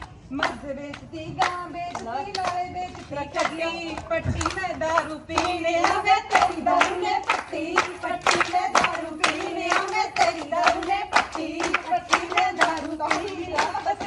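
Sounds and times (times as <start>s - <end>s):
women clapping in rhythm: 0.0s - 14.0s
women singing together: 0.0s - 14.0s.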